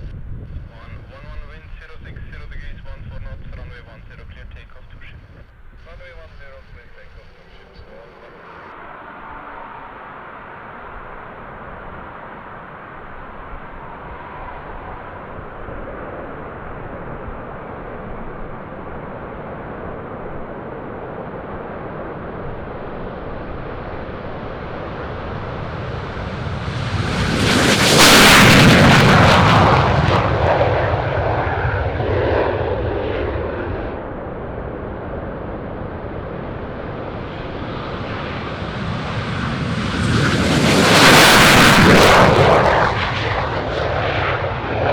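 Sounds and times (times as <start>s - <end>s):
fighter jet passing: 0.5s - 44.9s.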